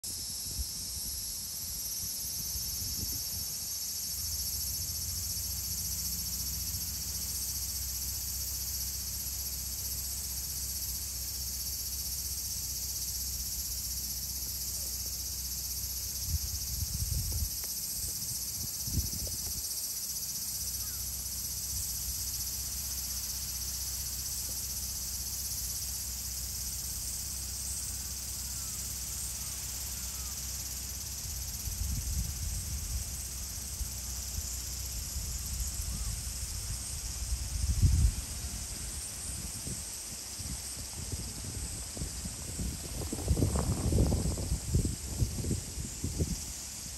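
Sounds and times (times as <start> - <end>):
insects chorus: 0.0 - 46.9.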